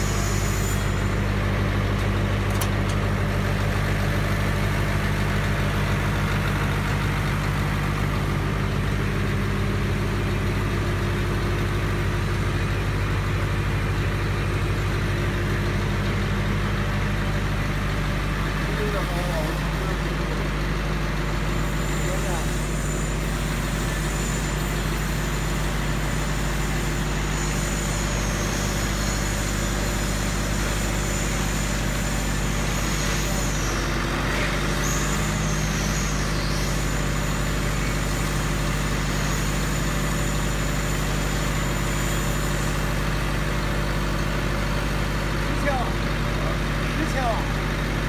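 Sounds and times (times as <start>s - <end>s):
diesel generator droning: 0.0s - 48.0s.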